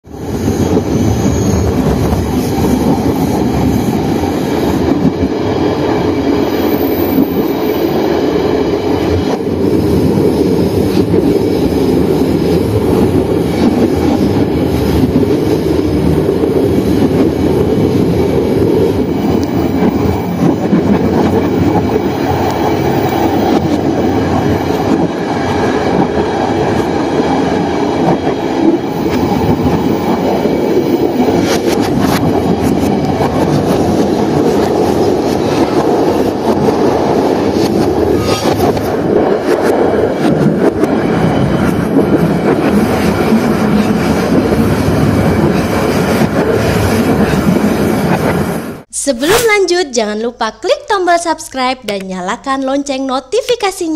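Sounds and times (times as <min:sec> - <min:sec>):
train wheels on rail: 0:00.1 - 0:48.9.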